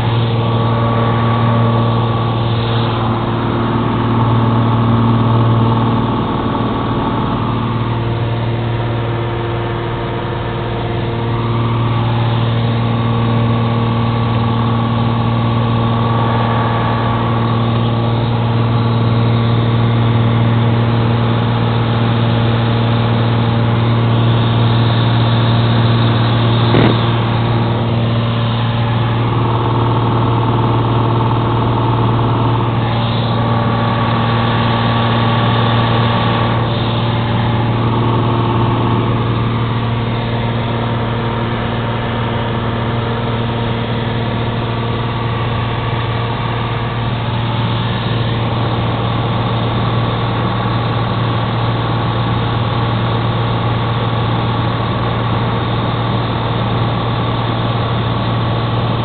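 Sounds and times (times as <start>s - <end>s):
propeller plane engine droning: 0.0s - 59.0s.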